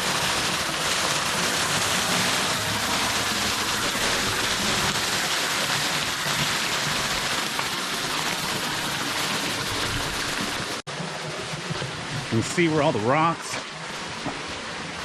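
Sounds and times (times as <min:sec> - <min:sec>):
waterfall splashing into pool: 0:00.0 - 0:15.0.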